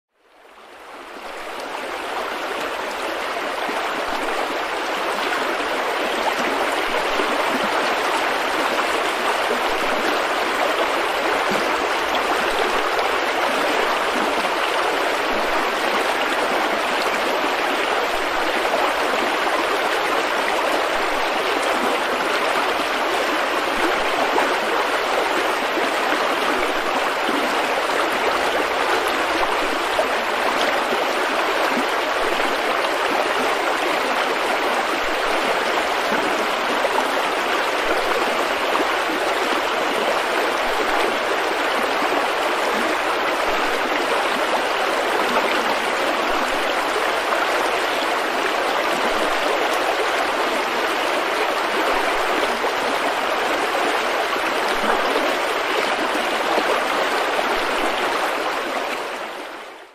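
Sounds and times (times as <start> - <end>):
stream splashing over rocks: 0.4 - 59.6.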